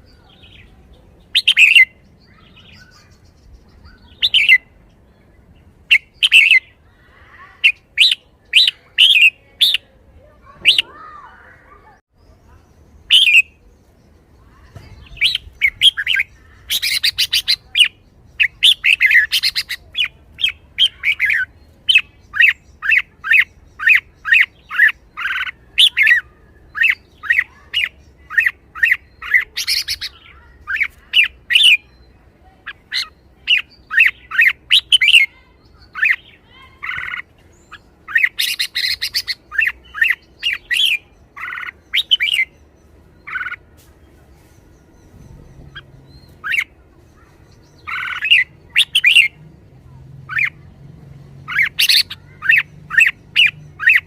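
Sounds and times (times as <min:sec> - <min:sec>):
bird chattering: 0:00.0 - 0:05.0, 0:05.9 - 0:43.7, 0:44.4 - 0:50.8, 0:51.4 - 0:54.0.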